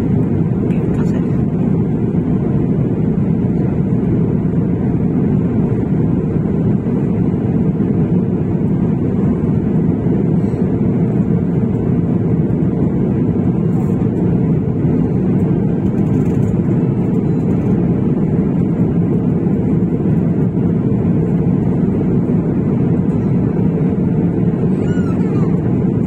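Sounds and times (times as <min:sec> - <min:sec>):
jet engine and airflow rumble: 0:00.0 - 0:26.0.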